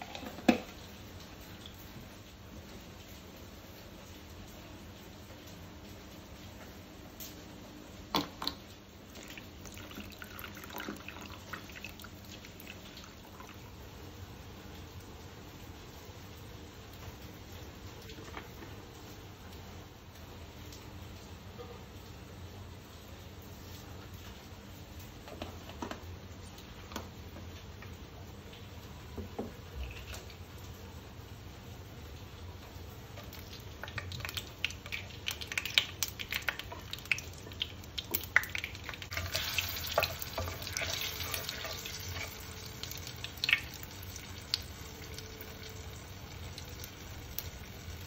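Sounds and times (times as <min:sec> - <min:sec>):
seeds crackling in hot oil: 0:00.0 - 0:48.0.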